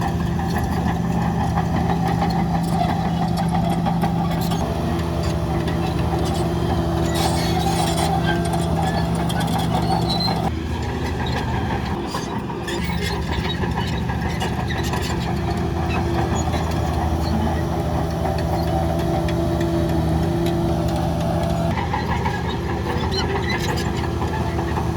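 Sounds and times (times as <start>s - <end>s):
heavy diesel engine running: 0.0s - 24.9s.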